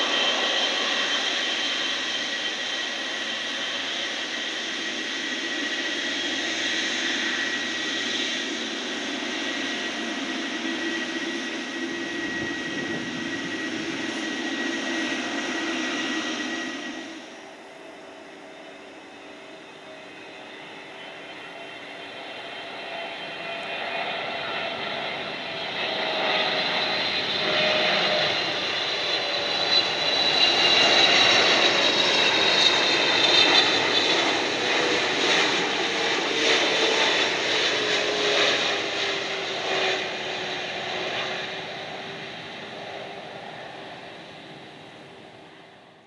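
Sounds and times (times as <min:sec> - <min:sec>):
jet engine whine: 0:00.0 - 0:46.0.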